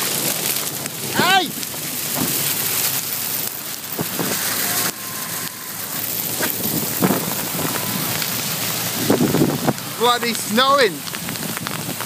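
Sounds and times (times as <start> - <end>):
hail on tarmac and cars: 0.0 - 12.0.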